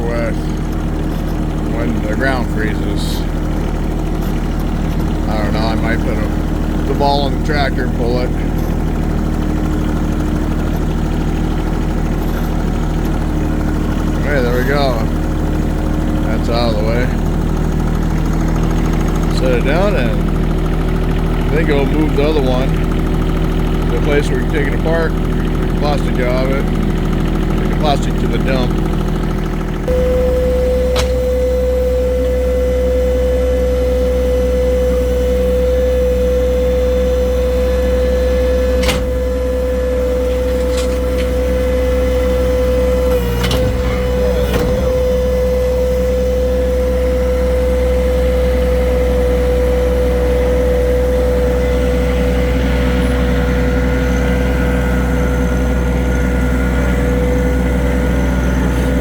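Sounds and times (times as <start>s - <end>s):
steady whine: 0.0s - 59.0s
tractor engine running: 0.0s - 59.0s.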